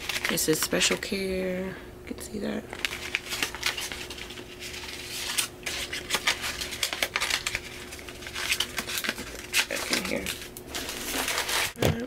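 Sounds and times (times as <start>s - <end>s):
paper cards and packaging rustling: 0.0s - 1.3s, 2.7s - 11.8s.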